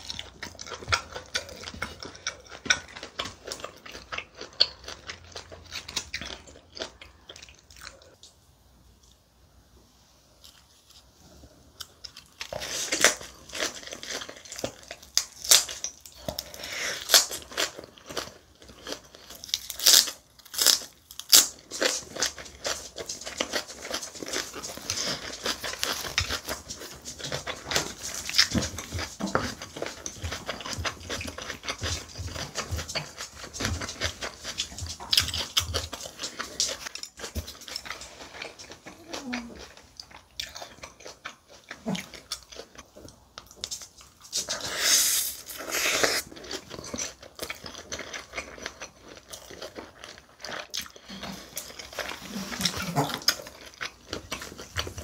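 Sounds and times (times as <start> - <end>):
crunching and chewing cabbage: 0.0 - 9.3, 10.3 - 55.0.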